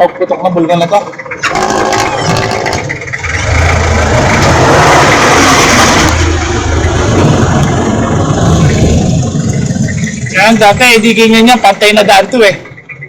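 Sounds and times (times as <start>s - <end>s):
road and tyre noise: 0.0s - 13.0s
vehicle engine humming: 0.0s - 13.0s.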